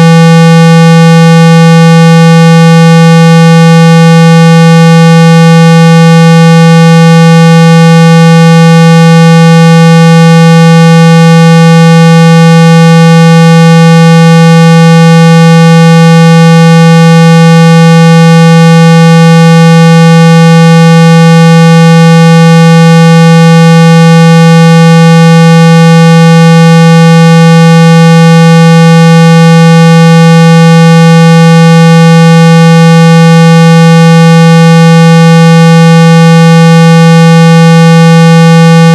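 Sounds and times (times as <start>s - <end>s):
loud steady test tone: 0.0s - 38.9s.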